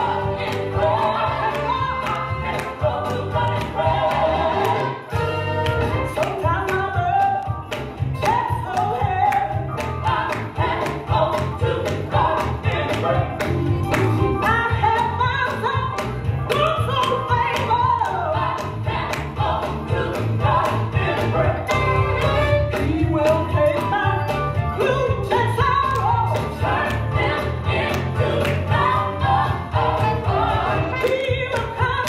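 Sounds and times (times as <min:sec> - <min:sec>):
gospel voices singing: 0:00.0 - 0:07.5, 0:08.2 - 0:15.9, 0:16.8 - 0:32.0.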